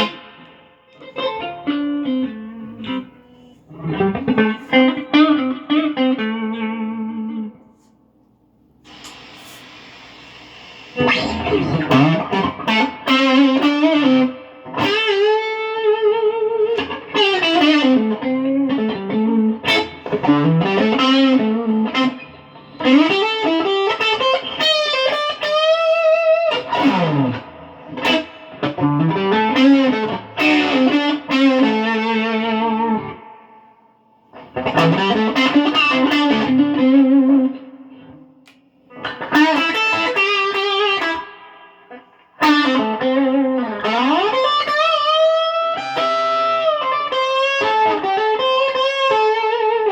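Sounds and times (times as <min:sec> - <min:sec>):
electric guitar lead phrases: 0:00.0 - 0:07.9, 0:08.6 - 0:49.9.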